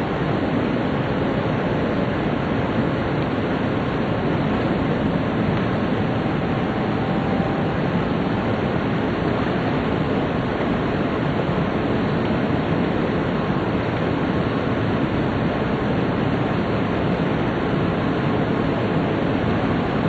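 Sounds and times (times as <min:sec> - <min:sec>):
train running at speed: 0:00.0 - 0:20.0.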